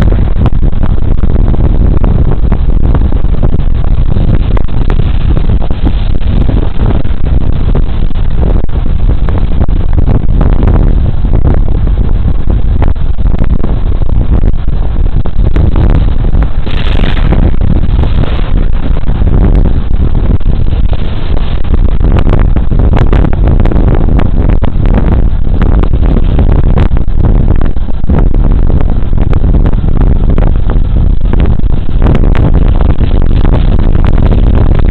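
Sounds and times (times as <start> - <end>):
wind rumble on microphone: 0.0 - 34.9.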